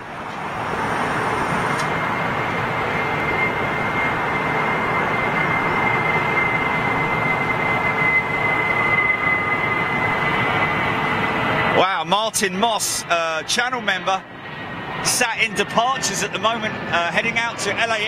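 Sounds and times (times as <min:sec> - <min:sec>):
high engine whine: 0:00.0 - 0:18.0
jet engines at takeoff power: 0:00.0 - 0:18.0.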